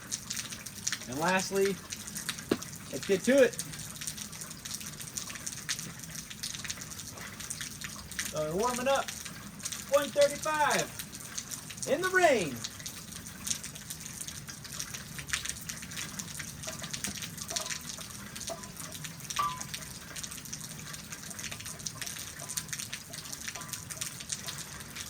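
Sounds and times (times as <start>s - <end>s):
sharp water drips: 0.0s - 25.0s
steady rain falling: 0.0s - 25.0s.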